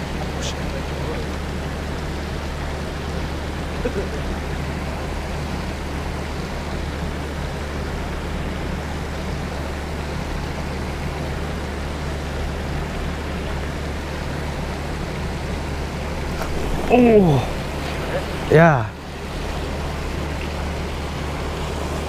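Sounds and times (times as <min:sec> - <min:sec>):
low hum: 0:00.0 - 0:22.0
steady rushing noise: 0:00.0 - 0:22.0.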